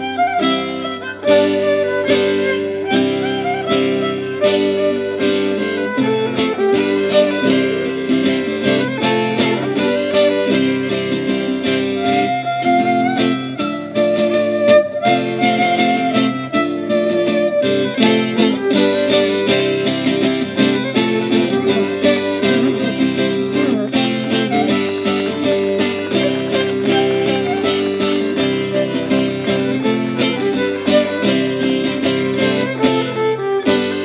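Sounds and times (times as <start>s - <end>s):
lute plucking: 0.0s - 34.0s
violin melody: 0.0s - 34.0s.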